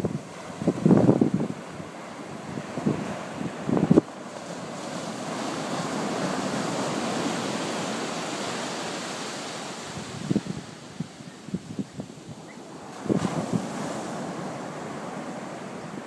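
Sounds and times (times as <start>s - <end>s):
sea waves washing in: 0.0s - 16.0s
wind buffeting microphone: 0.0s - 16.0s.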